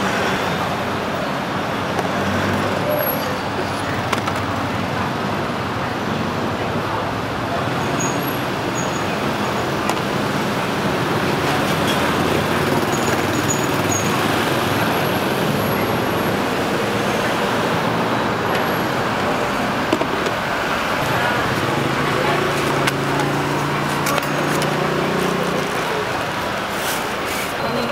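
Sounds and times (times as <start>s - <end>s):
street traffic: 0.0s - 27.9s.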